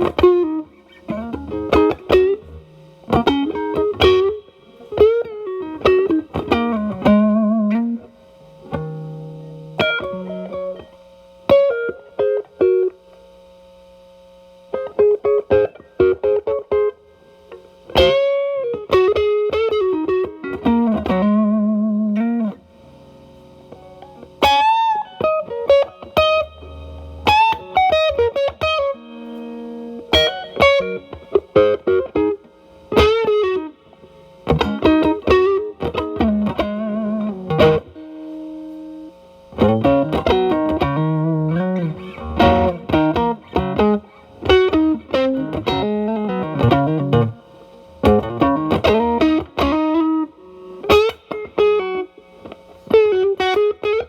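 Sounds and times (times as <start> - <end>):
distorted electric guitar lead: 0.0 - 13.8, 14.6 - 54.0.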